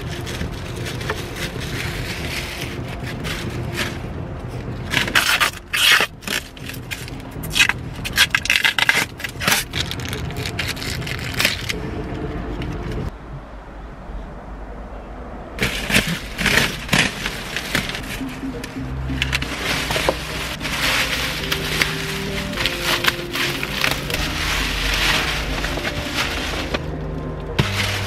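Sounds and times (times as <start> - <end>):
plastic film crinkling: 0.0 - 11.8, 15.6 - 28.0.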